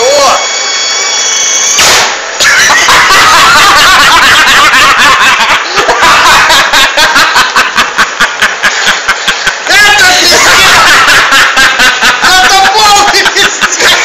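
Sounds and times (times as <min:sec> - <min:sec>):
people laughing loudly: 0:02.4 - 0:14.0.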